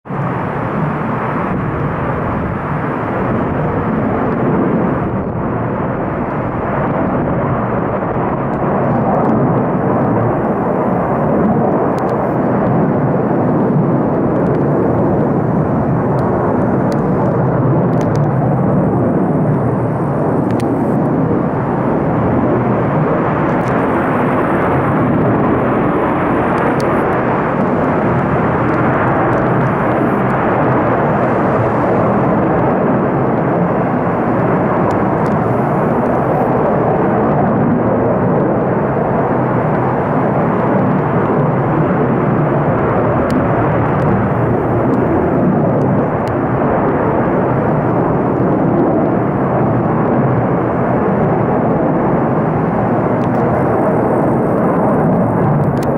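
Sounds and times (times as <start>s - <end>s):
fighter jet engines roaring: 0.0s - 55.9s.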